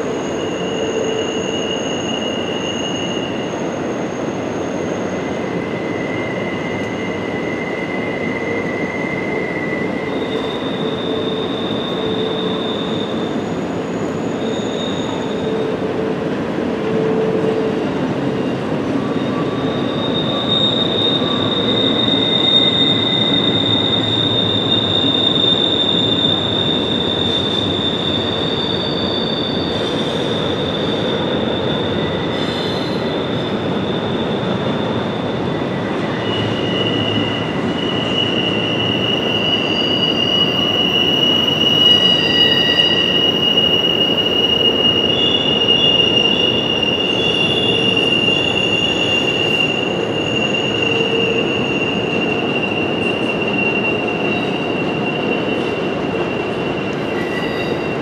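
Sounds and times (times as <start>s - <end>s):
high-pitched wheel squeals: 0.0s - 58.0s
train wheels rumbling on rail: 0.0s - 58.0s.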